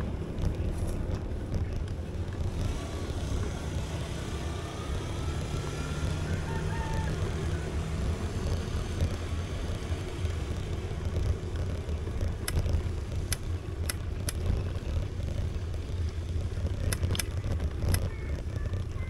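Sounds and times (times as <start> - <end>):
wind and road noise rumble: 0.0 - 19.0.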